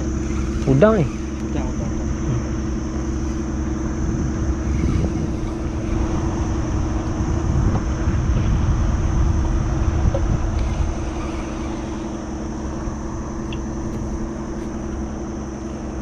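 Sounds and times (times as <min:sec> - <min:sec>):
motor droning: 0:00.0 - 0:16.0
wind rumble on microphone: 0:00.0 - 0:16.0.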